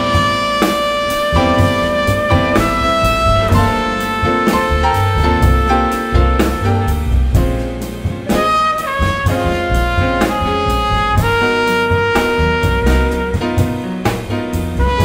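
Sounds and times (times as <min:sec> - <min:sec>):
trumpet melody: 0:00.0 - 0:07.5, 0:08.2 - 0:15.0
double bass: 0:00.0 - 0:15.0
drum kit: 0:00.0 - 0:15.0
grand piano: 0:00.0 - 0:15.0.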